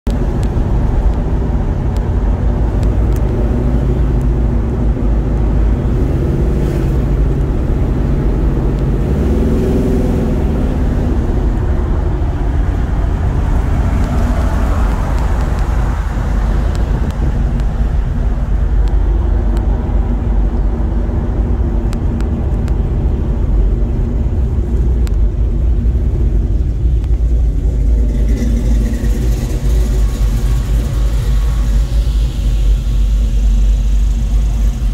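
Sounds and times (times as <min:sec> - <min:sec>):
car engine rumble: 0:00.0 - 0:34.9
road and wind noise: 0:00.0 - 0:34.9.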